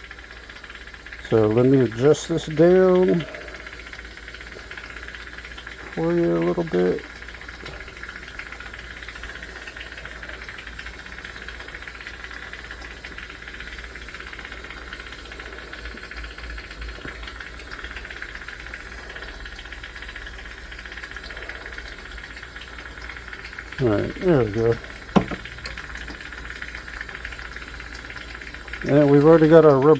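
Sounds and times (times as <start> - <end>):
even hiss: 1.2 - 29.9.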